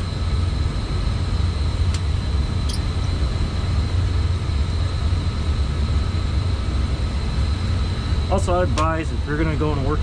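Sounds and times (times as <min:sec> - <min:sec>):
boiler equipment rumbling: 0:00.0 - 0:10.0.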